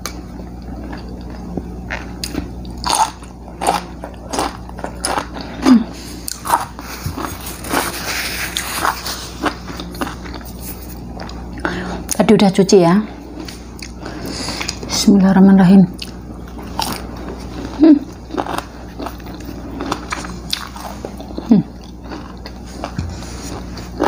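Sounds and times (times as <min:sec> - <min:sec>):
chewing and crunching food: 0:00.0 - 0:12.3, 0:13.0 - 0:14.9, 0:15.9 - 0:24.0
faint electrical hum: 0:00.0 - 0:24.0.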